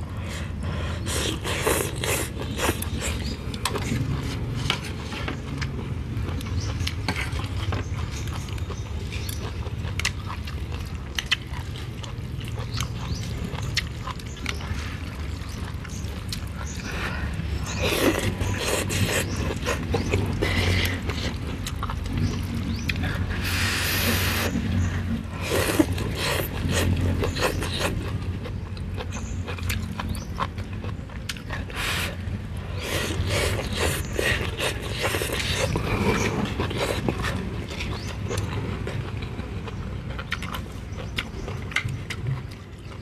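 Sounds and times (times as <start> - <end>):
noodles slurped and chewed: 0.0 - 43.0.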